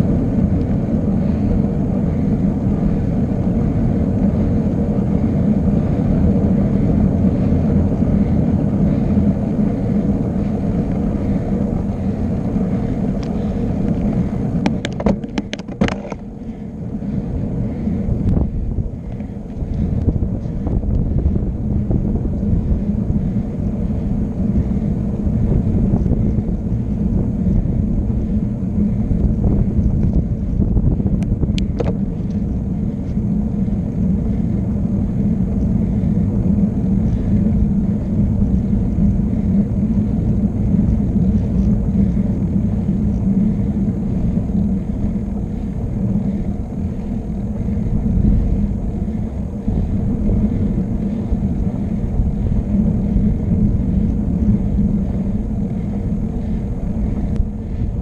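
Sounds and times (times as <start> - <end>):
low road rumble: 0.0 - 58.0
wind buffeting microphone: 0.0 - 58.0.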